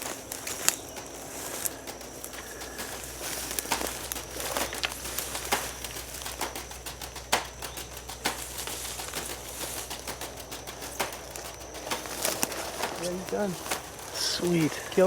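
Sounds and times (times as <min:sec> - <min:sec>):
dry vegetation rustling and snapping: 0:00.0 - 0:15.0.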